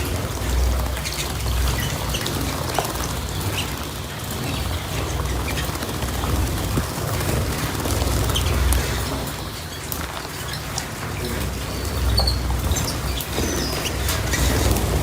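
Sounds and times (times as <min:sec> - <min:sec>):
cage birds chirping: 0:00.0 - 0:15.0
water pattering: 0:00.0 - 0:15.0.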